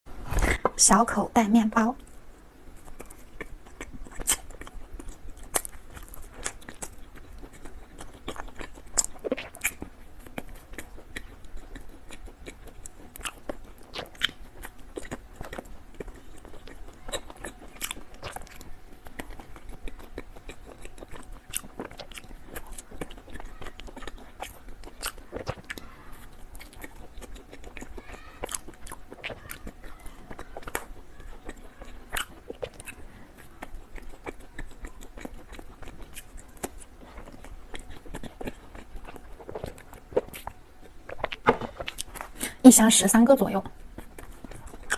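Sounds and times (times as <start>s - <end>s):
chewing bread roll: 1.6s - 42.6s, 43.2s - 44.9s.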